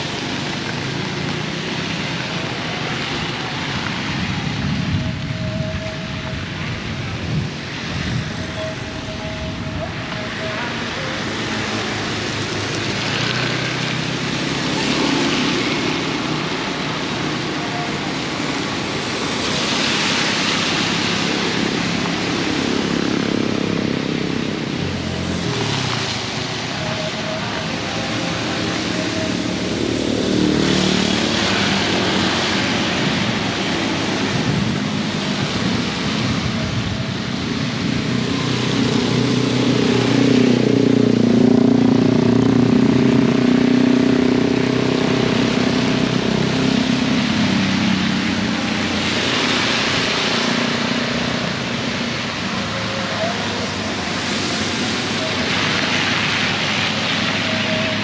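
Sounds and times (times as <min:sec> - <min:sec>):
heavy rain pouring: 0:00.0 - 0:58.0
vehicles passing on wet road: 0:00.0 - 0:58.0.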